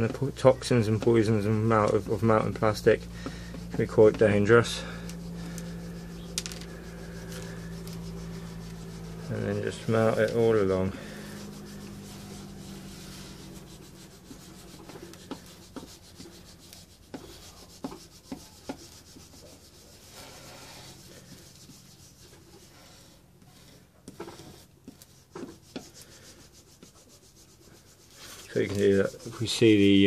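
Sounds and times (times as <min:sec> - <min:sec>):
hot tool scraping plastic: 0:00.0 - 0:30.0
low steady hum: 0:00.0 - 0:30.0.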